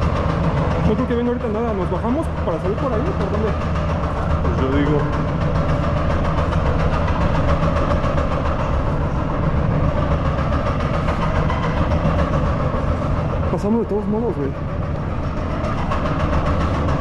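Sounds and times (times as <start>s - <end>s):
low mechanical drone and rumble: 0.0s - 17.0s.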